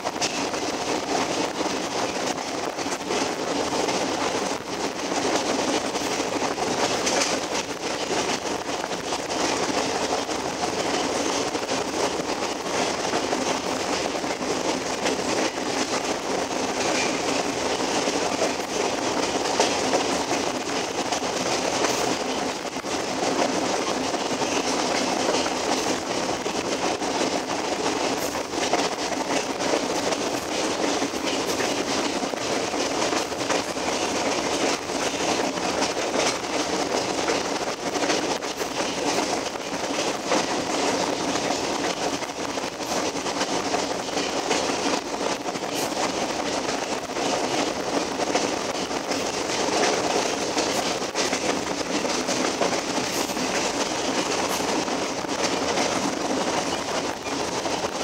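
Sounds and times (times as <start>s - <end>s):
train wheels rushing on rails: 0.0s - 58.0s
wheels clicking over track: 0.1s - 58.0s.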